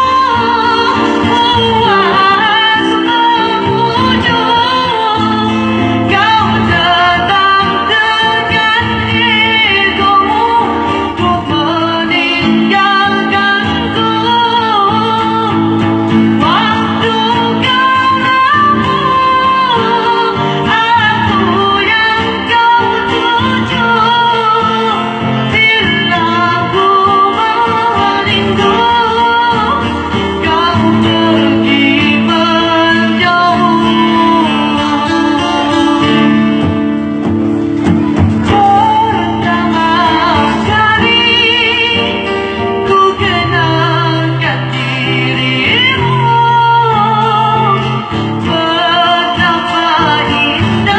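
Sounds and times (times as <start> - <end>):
acoustic guitar: 0.0 - 50.9
woman singing: 0.0 - 50.9.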